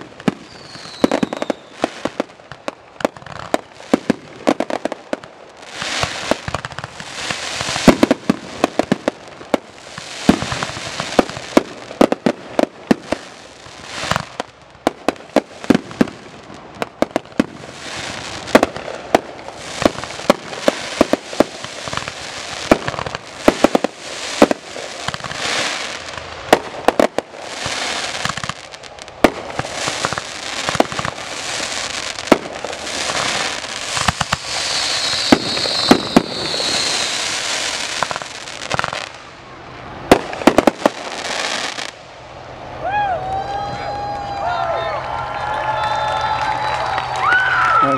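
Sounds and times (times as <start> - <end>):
fireworks sharp bangs: 0.0 - 42.4
fireworks crackling and hissing: 0.0 - 47.9.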